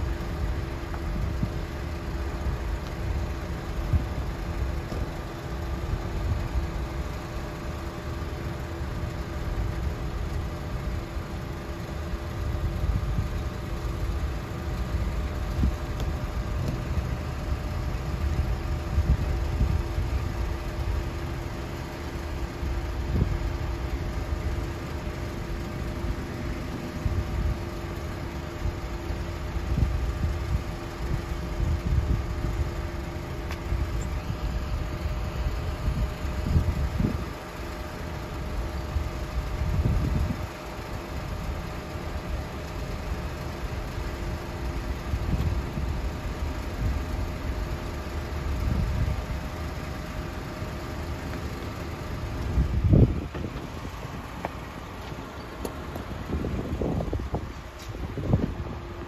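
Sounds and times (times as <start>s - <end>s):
ship engine drone: 0.0s - 59.0s.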